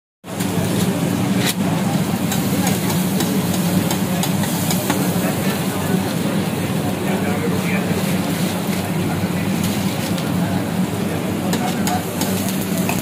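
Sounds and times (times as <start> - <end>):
food sizzling on iron griddle: 0.5 - 13.0.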